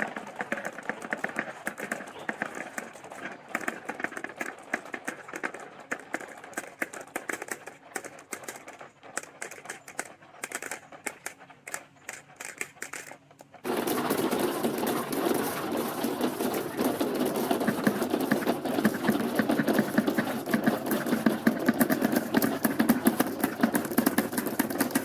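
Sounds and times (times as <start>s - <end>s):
dense continuous rattle: 0.0s - 25.0s.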